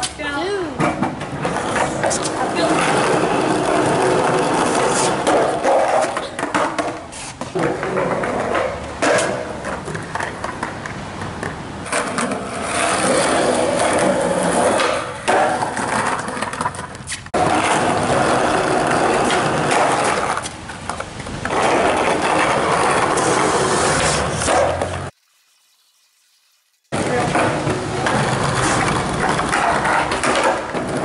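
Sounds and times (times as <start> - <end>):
skateboard wheels rolling on concrete: 0.0 - 25.2, 26.9 - 31.0
skateboard clacks: 0.8 - 25.1, 27.0 - 31.0.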